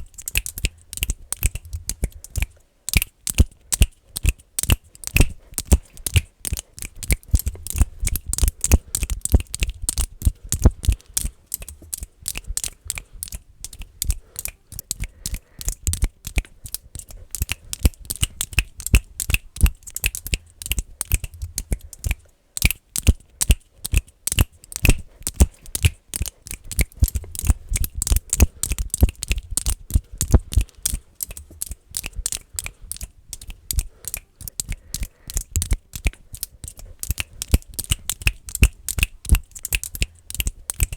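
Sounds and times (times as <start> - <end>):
fast finger clicking: 0.0 - 40.9.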